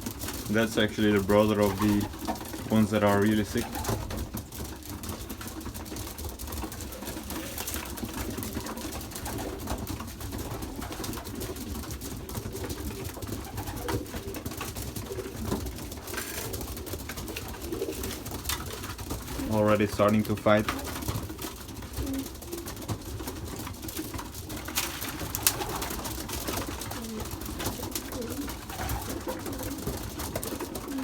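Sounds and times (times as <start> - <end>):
birds clicking and scuffling: 0.0 - 31.0
pigeons cooing: 0.0 - 31.0.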